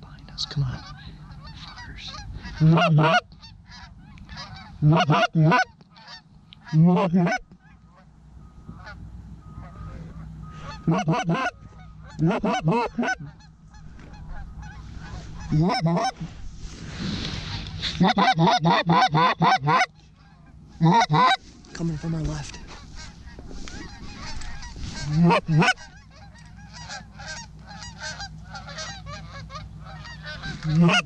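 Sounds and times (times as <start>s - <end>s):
goose honking and clucking: 0.6s - 16.4s, 17.4s - 31.0s.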